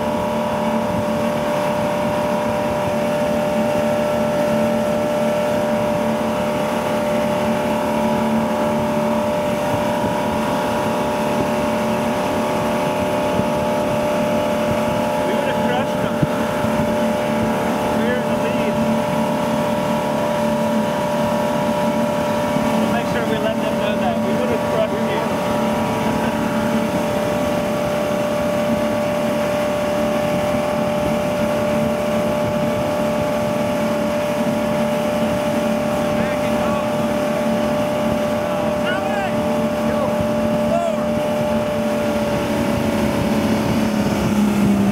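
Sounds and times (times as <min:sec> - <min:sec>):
boat engine running steadily: 0:00.0 - 0:44.9
constant rushing noise: 0:00.0 - 0:44.9
water wash of hull: 0:00.0 - 0:44.9.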